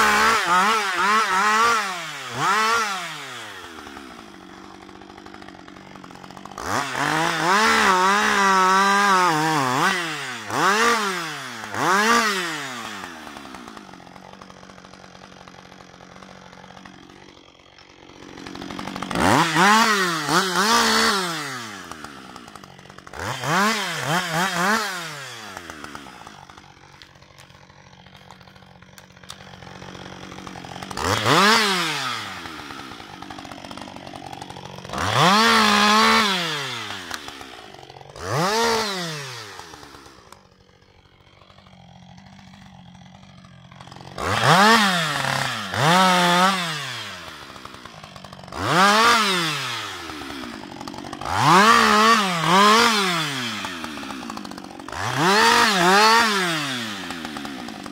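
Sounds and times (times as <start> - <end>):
chainsaw revving and idling: 0.0 - 57.9.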